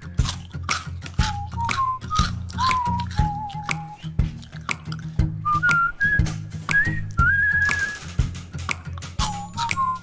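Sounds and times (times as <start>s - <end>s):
whistled melody over beat: 0.0s - 10.0s.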